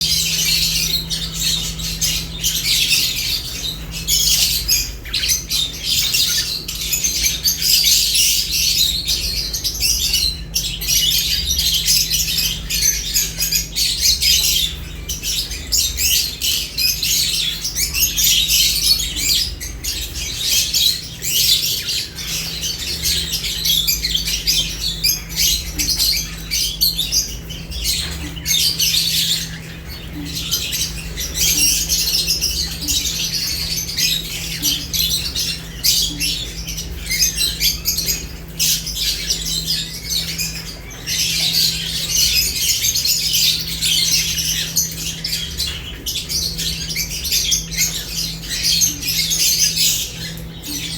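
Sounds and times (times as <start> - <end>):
birds chattering and squawking: 0.0 - 50.9.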